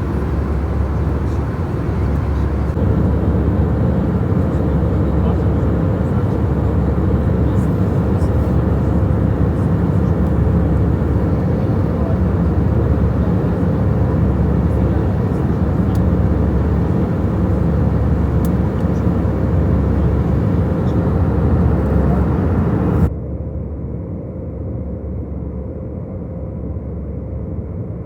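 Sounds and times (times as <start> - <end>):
airplane cabin engine rumble: 0.0 - 28.0.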